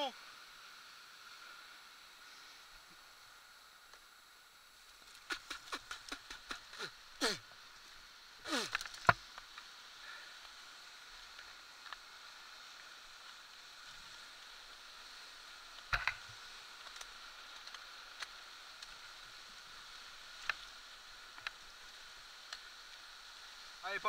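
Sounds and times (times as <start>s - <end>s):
bike tyres hissing on dirt trail: 0.0s - 24.0s.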